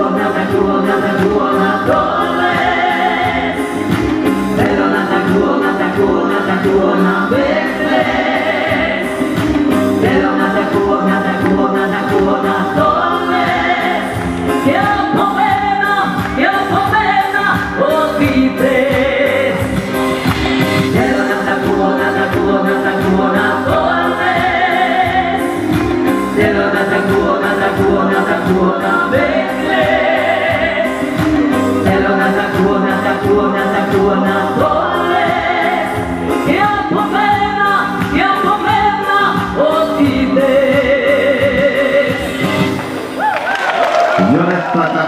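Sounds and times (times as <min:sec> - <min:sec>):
woman singing into microphone: 0:00.0 - 0:42.8
backing music with steady beat: 0:00.0 - 0:45.0.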